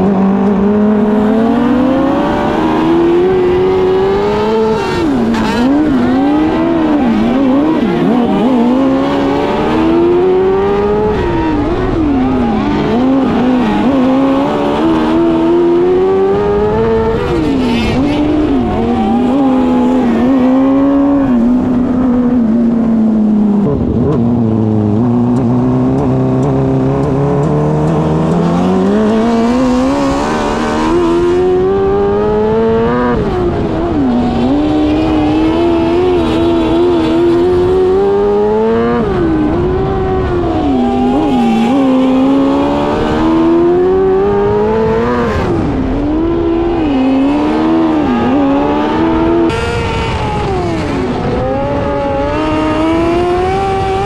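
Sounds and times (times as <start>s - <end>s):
racing motorcycle engine: 0.0s - 54.0s.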